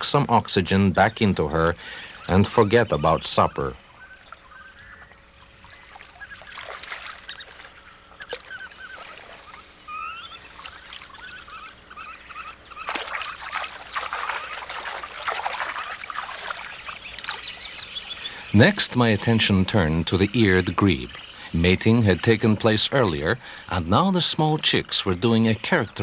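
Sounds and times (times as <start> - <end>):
water splashing: 0.0 - 26.0
waterbirds calling: 0.0 - 26.0.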